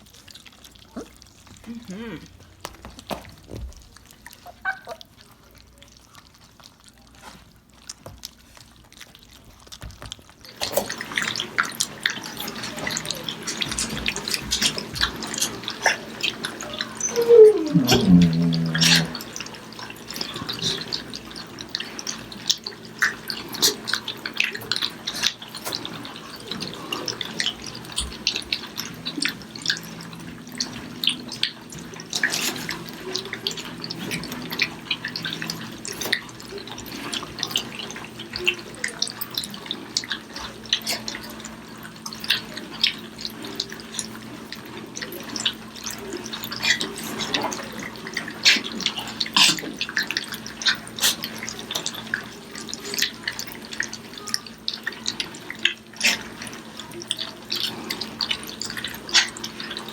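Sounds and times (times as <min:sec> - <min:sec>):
puppies lapping and chewing food: 0:00.0 - 0:59.9.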